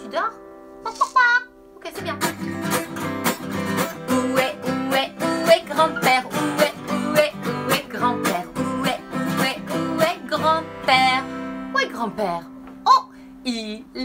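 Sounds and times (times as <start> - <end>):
acoustic guitar strumming: 0.0 - 13.2.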